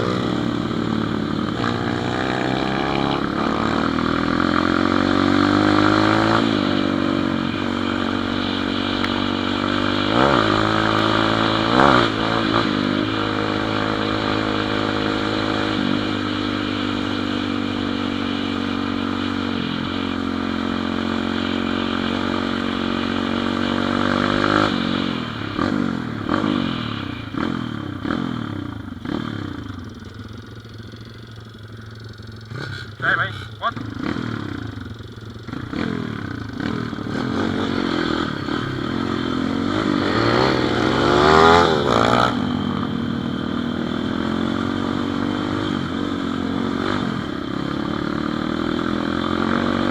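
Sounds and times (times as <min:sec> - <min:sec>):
pit bike engine running: 0:00.0 - 0:49.9.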